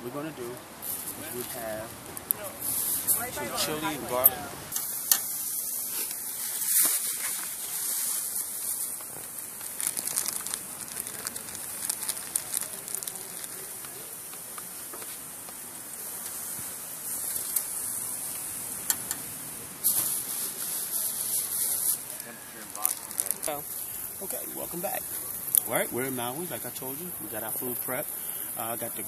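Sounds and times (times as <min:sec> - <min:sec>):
meat sizzling on a grill: 0:00.1 - 0:29.0
crackles and pops: 0:00.8 - 0:29.0.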